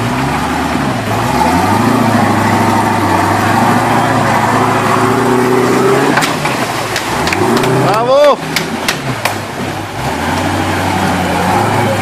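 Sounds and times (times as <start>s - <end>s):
buggy engine revving: 0.0s - 12.0s.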